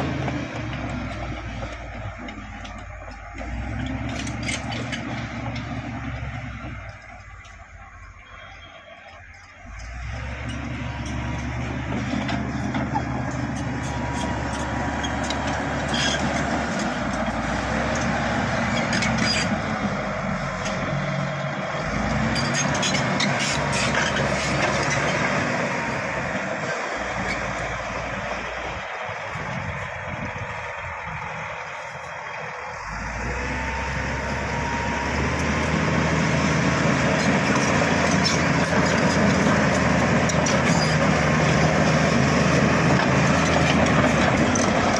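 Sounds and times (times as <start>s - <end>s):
tracks clanking and rattling: 0.0s - 8.2s, 9.2s - 32.6s, 34.6s - 44.9s
bulldozer diesel engine: 0.0s - 44.9s.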